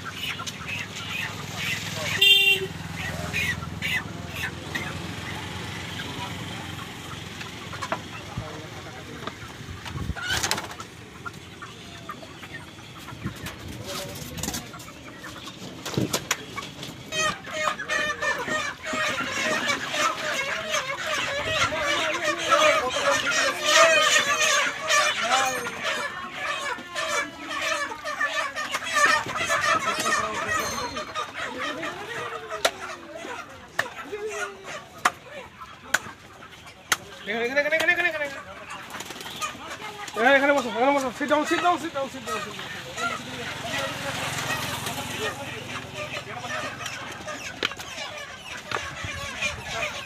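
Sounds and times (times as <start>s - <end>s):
chickens clucking: 0.0s - 50.0s.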